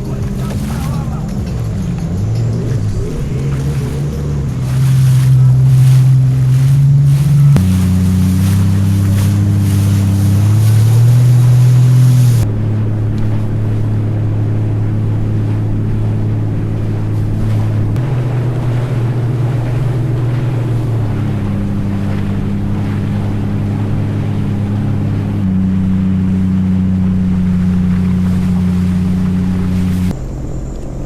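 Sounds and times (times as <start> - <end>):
engine drone: 0.0 - 31.0
wind-like noise: 0.0 - 31.0.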